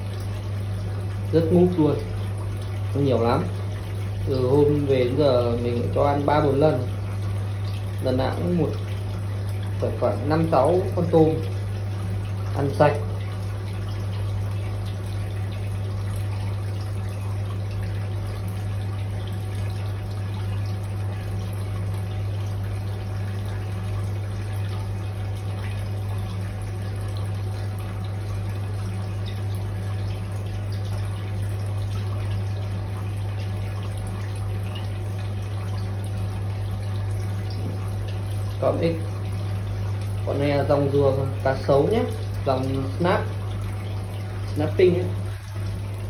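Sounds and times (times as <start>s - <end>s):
aquarium pump humming: 0.0s - 46.0s
water trickling: 0.0s - 46.0s.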